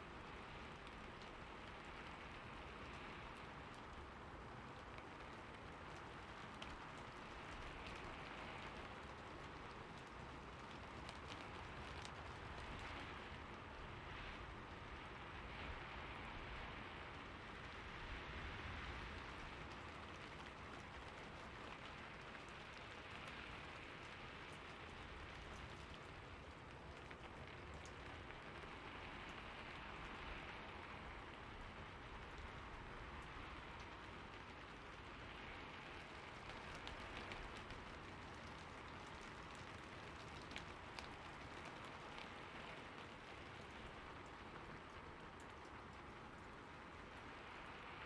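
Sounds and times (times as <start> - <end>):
quiet rainfall: 0.0 - 48.0.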